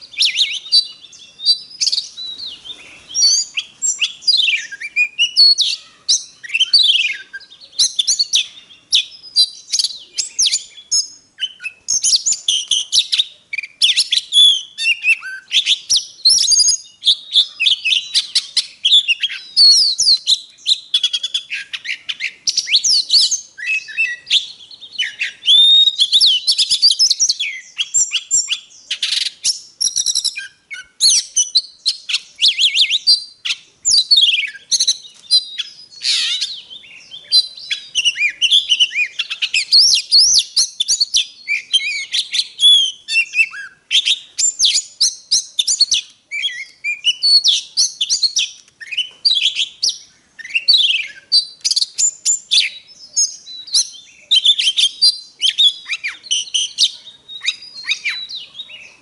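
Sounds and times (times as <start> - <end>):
bird singing whistles and trills: 0.0 - 59.0.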